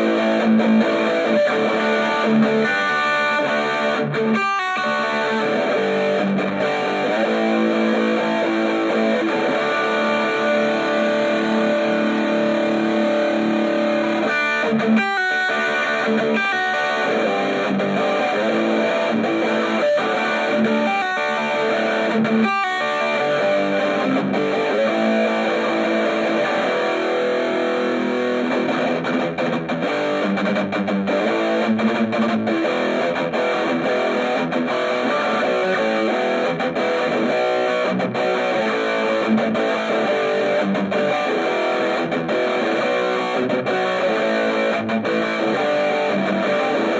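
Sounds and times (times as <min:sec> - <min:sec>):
distorted electric guitar: 0:00.0 - 0:46.9.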